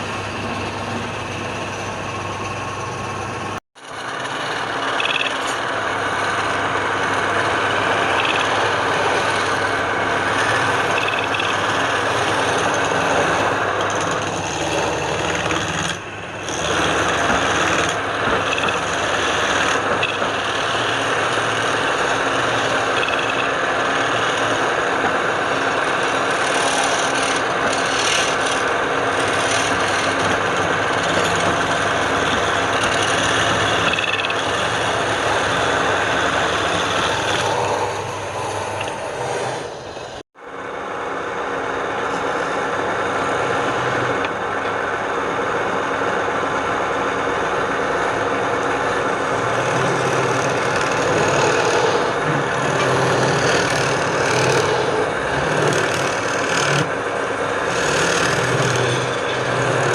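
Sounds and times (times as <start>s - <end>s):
wood scraping on a lathe: 0.0s - 40.2s, 42.1s - 44.4s, 46.9s - 59.9s
lathe machine hum: 0.0s - 59.9s.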